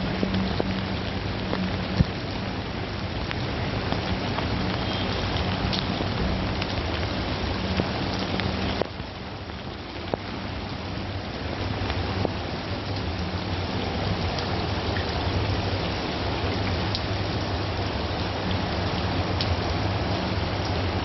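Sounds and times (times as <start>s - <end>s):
drips and splashes: 0.0s - 21.0s
heavy rain on street: 0.0s - 21.0s.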